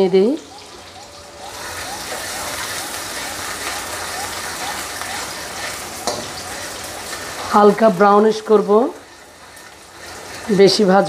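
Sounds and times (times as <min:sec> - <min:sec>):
onions sizzling in hot oil: 0:00.0 - 0:11.0
spatula stirring in wok: 0:01.6 - 0:11.0.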